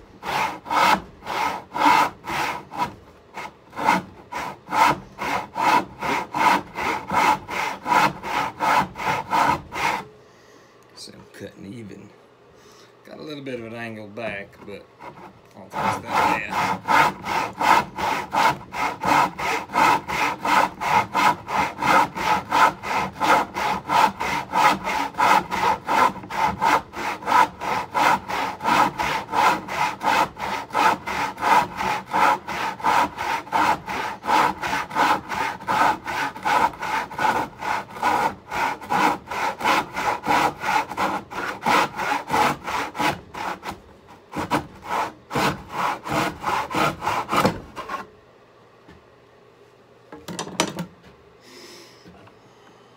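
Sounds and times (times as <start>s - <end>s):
handsaw cutting wood: 0.0s - 10.1s, 15.0s - 48.1s.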